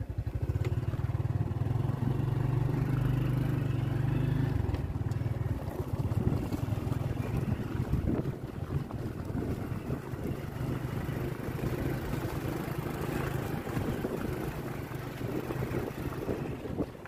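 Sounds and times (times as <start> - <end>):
rush of travel: 0.0 - 17.0
small motorcycle engine: 0.0 - 17.0.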